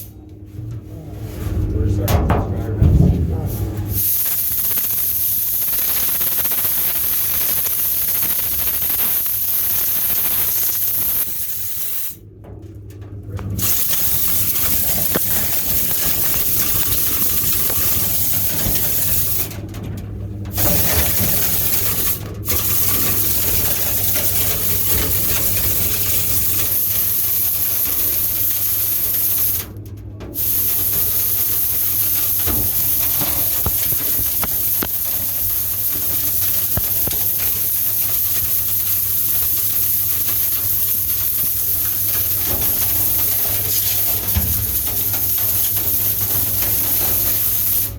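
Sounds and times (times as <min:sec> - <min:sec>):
dryer vent cleaning equipment hissing: 0:00.0 - 0:00.3, 0:00.9 - 0:12.4, 0:13.4 - 0:47.9.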